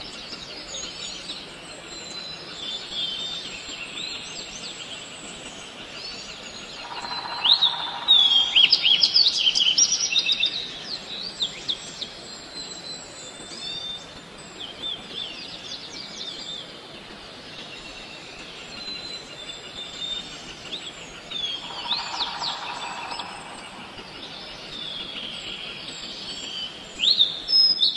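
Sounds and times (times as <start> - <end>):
birds chirping: 0.0 - 27.9
steady outdoor hiss: 0.0 - 27.9.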